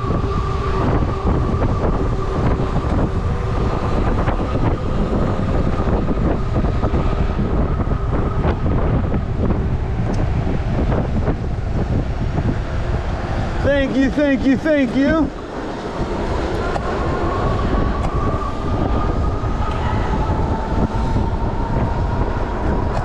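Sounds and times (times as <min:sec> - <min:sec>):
bike road noise: 0:00.0 - 0:23.0
wind buffeting microphone: 0:00.0 - 0:23.0.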